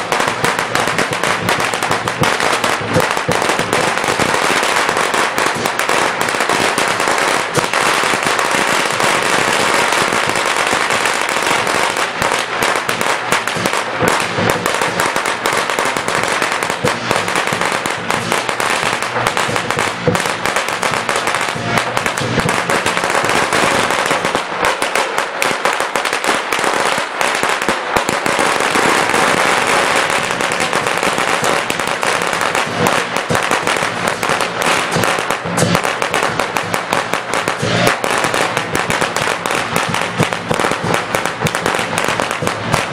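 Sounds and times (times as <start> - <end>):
firecrackers crackling: 0.0 - 42.9.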